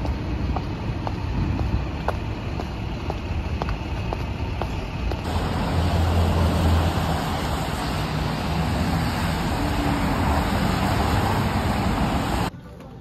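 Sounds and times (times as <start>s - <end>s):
low engine hum: 0.0s - 12.5s
cars rushing on road: 0.0s - 12.6s.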